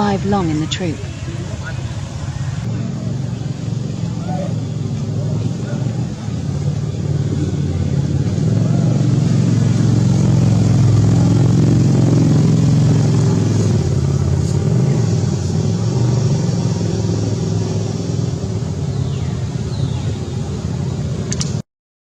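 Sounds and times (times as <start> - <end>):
loud low engine rumble: 0.0 - 21.6.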